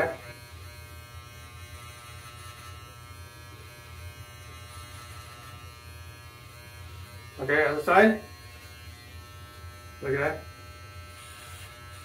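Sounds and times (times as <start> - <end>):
electric hair clippers buzzing: 0.0 - 12.0.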